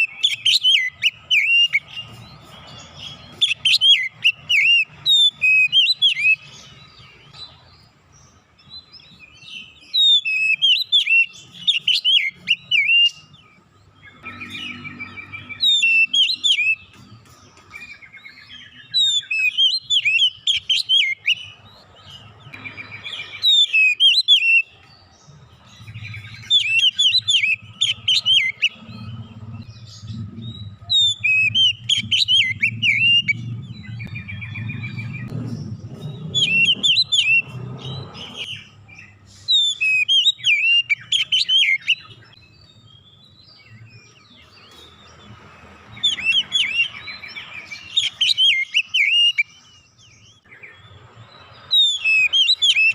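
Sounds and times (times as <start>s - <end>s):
bird singing whistles and chirps: 0.0s - 52.9s.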